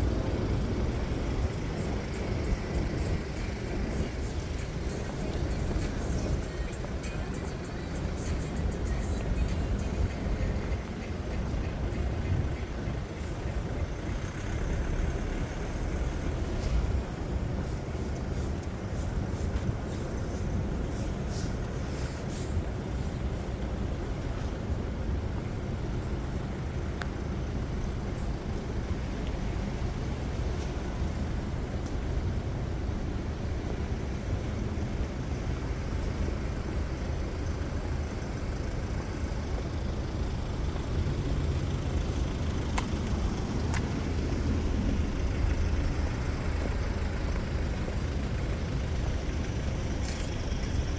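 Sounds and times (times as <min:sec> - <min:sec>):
traffic rumble of cars and buses: 0:00.0 - 0:50.9.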